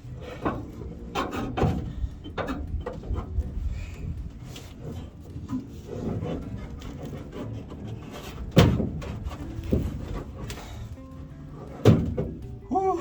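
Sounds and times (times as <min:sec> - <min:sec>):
hands and tools scraping: 0:00.0 - 0:12.6.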